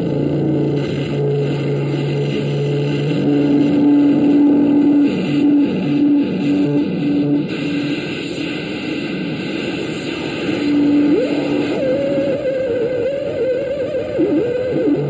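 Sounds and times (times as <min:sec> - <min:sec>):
harsh static-like noise: 0:00.0 - 0:15.0
stuttering low droning tone: 0:00.0 - 0:15.0.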